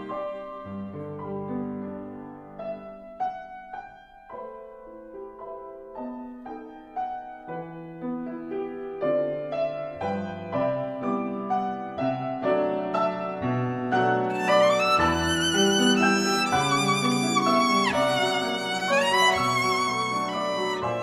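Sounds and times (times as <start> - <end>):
gentle solo piano music: 0.0 - 21.0.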